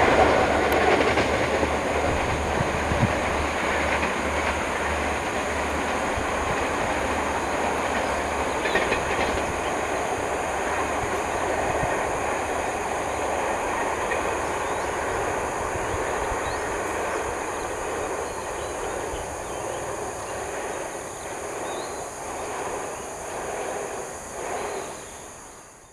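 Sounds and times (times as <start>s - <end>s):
train wheels on rails: 0.0s - 25.9s.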